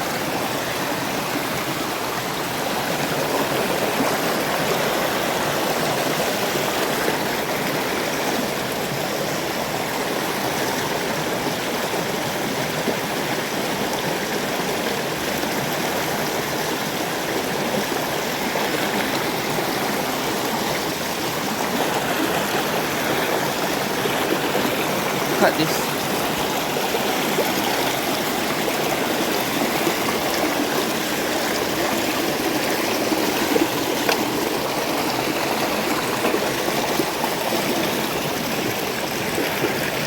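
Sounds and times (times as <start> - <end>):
river water flowing over stones: 0.0 - 40.0.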